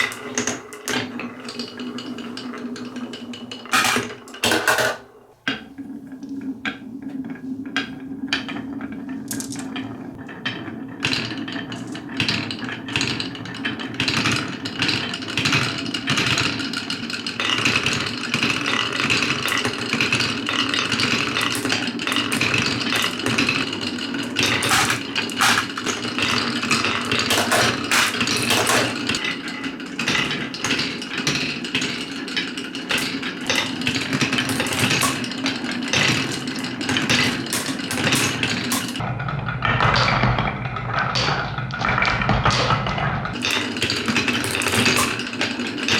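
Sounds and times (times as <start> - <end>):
marbles rolling on wooden tracks: 0.0 - 45.9.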